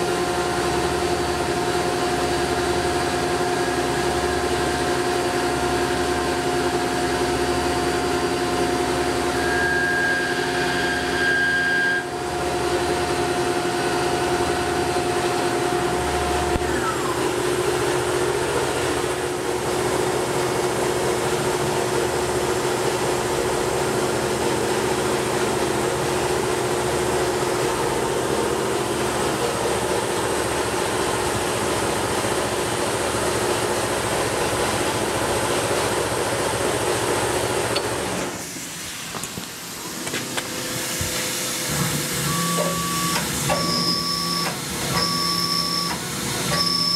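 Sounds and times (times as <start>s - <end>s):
machine hum: 0.0s - 46.9s
mill spindle cutting whine: 0.0s - 46.9s.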